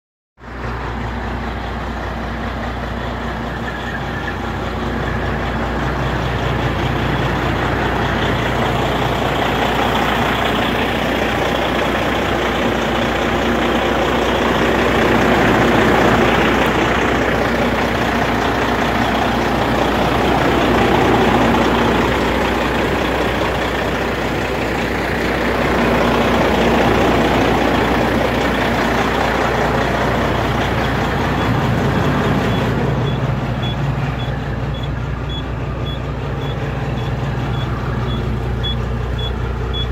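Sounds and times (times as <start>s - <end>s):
diesel truck engine idling: 0.4s - 39.9s.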